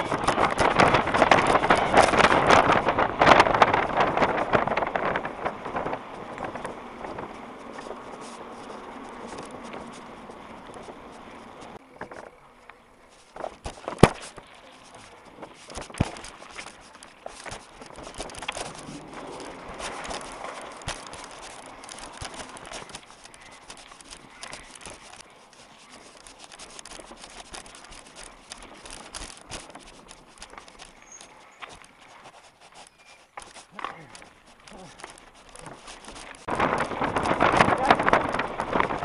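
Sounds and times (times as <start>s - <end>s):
bike rattling over cobblestones: 0.0s - 39.0s.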